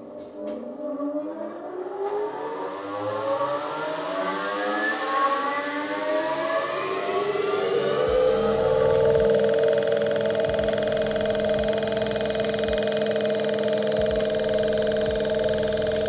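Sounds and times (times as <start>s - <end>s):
centrifuge whine rising in pitch: 0.0s - 16.0s.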